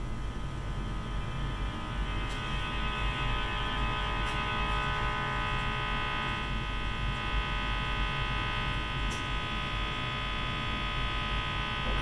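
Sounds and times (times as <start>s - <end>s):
radio loudspeaker hum: 1.5s - 12.0s.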